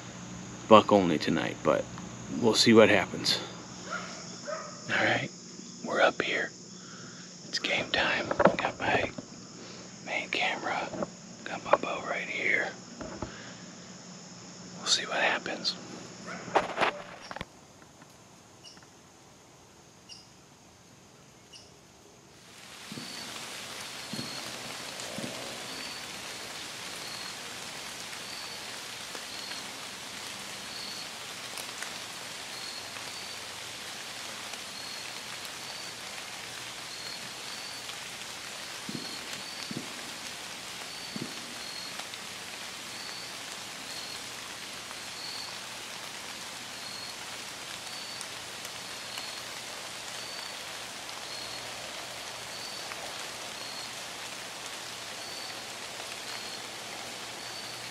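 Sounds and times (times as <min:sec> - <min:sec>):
rain on leaves: 0:00.0 - 0:19.8, 0:20.4 - 0:57.9.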